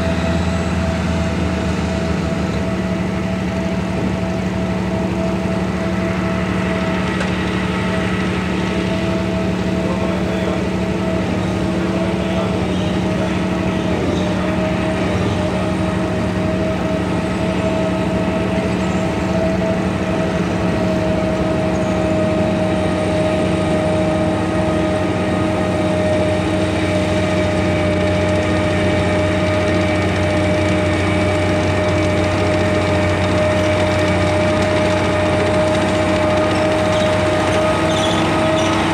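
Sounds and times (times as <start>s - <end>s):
steady high whine: 0.0s - 38.9s
tank engine running: 0.0s - 38.9s.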